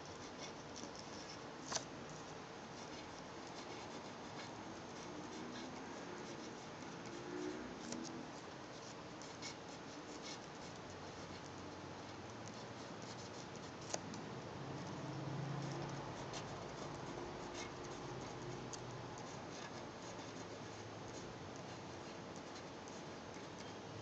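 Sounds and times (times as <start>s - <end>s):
pen nib scratching on paper: 0.0s - 24.0s.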